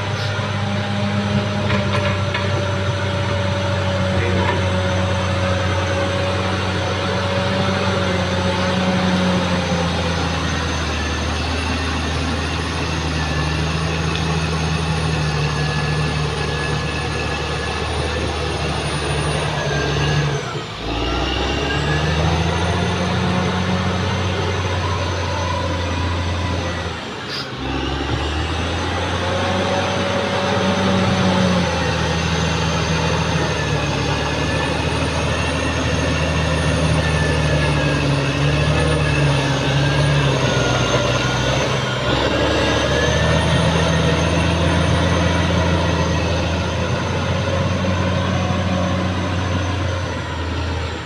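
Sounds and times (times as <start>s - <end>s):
bulldozer diesel engine under load: 0.0s - 51.0s.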